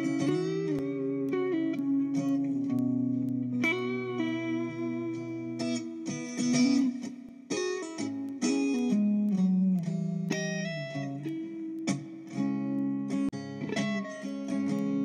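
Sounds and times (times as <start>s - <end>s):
guitar plucked notes and chords: 0.0s - 15.0s.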